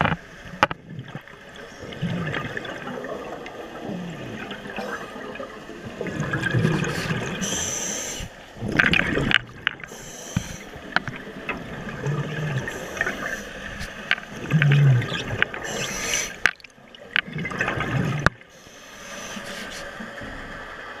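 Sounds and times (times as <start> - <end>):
underwater bubbling: 0.0 - 21.0.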